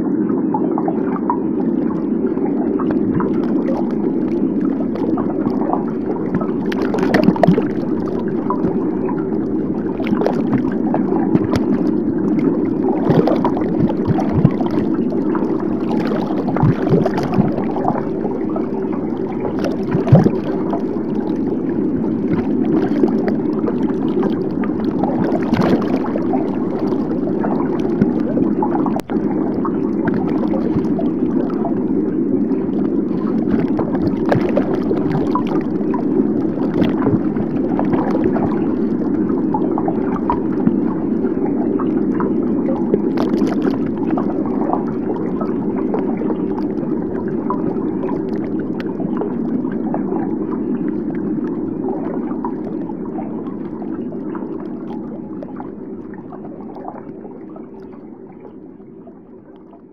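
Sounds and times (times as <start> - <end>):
underwater rushing noise: 0.0 - 59.9
small clicks and crackles: 0.8 - 58.6, 59.5 - 59.8.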